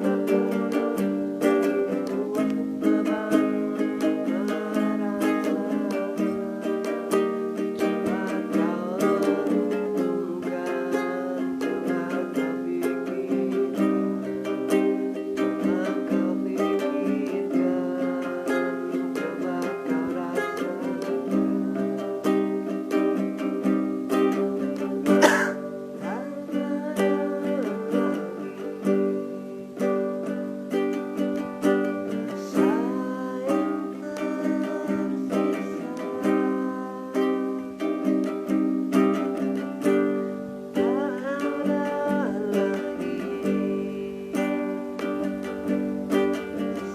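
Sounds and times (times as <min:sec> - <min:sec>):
ukulele playing: 0:00.0 - 0:46.9.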